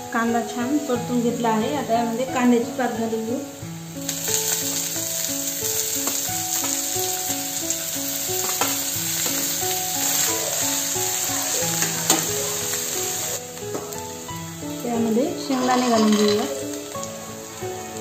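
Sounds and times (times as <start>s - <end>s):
onion greens sizzling in oil: 0.0s - 18.0s
plucked background melody: 0.0s - 18.0s.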